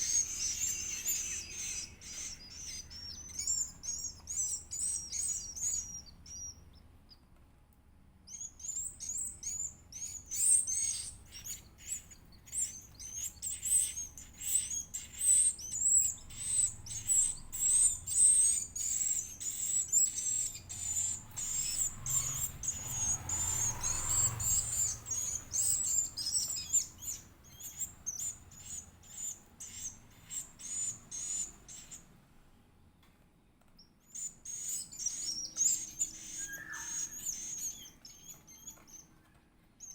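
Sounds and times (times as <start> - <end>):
bird chick begging chirps: 0.0 - 6.7, 8.3 - 32.0, 34.1 - 39.1.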